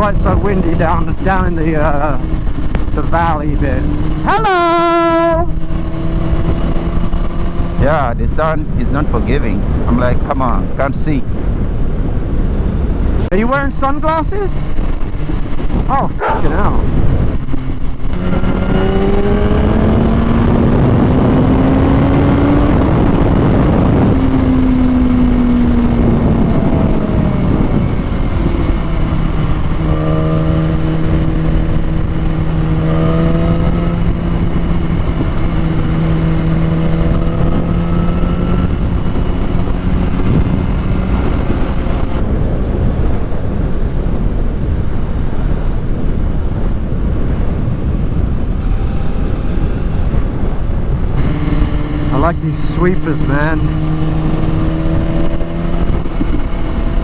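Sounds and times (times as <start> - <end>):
motorcycle engine: 0.0 - 57.0
wind noise on microphone: 0.0 - 57.0.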